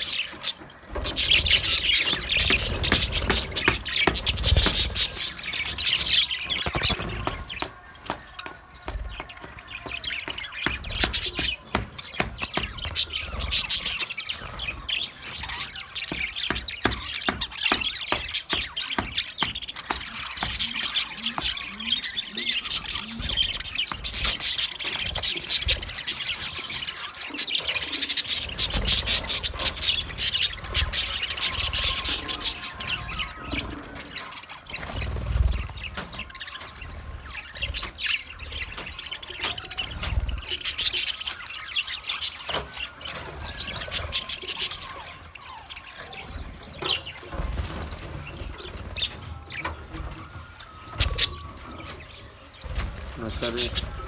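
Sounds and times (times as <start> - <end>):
parrots chattering: 0.0 - 54.0.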